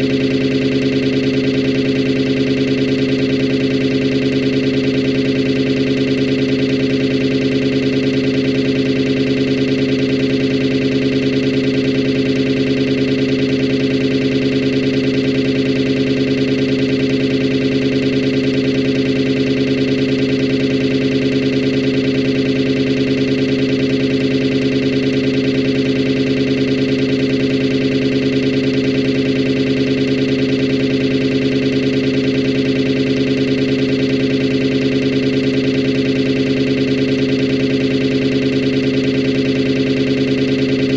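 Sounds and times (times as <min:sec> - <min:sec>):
synthesized sawtooth chord drone: 0:00.0 - 0:40.9.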